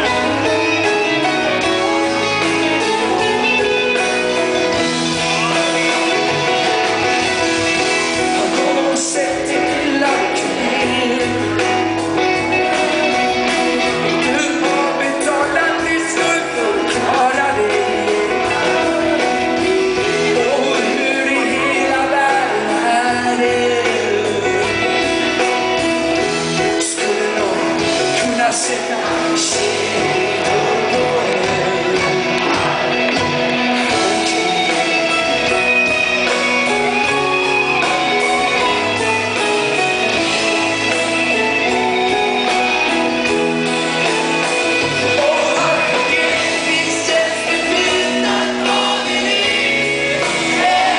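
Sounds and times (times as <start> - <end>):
live rock band playing: 0.0 - 50.9
male lead vocal: 0.0 - 50.9.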